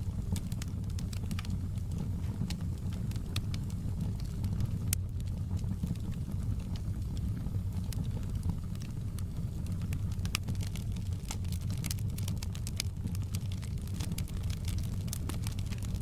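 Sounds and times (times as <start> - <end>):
wood fire rumbling and crackling: 0.0 - 16.0.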